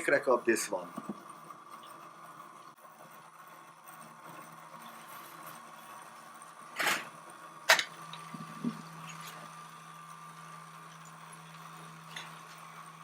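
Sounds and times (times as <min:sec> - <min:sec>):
glass lathe machine humming: 0:00.9 - 0:13.0.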